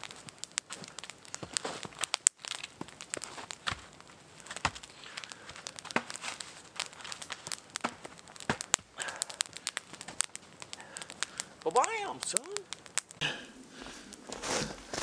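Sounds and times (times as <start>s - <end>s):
campfire crackling and popping: 0.0s - 15.0s
logs knocking onto fire: 0.0s - 15.0s.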